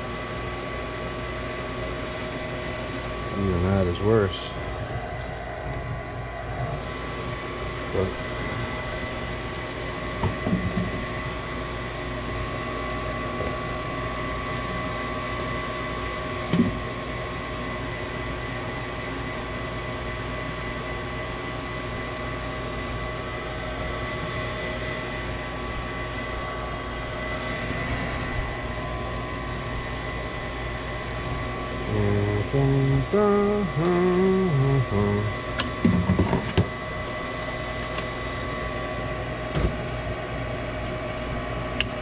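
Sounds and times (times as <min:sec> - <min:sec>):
motor whining over low hum: 0:00.0 - 0:42.0.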